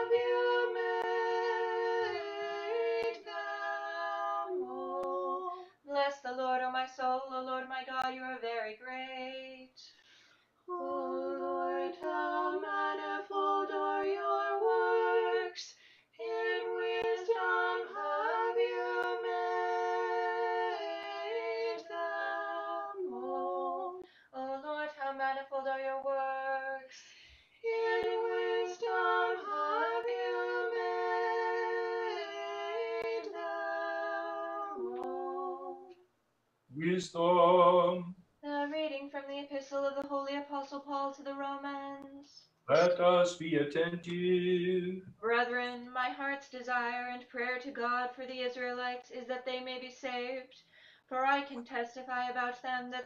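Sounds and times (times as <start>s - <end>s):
women singing a cappella harmony: 0.0s - 36.0s, 37.6s - 43.2s, 44.1s - 53.0s.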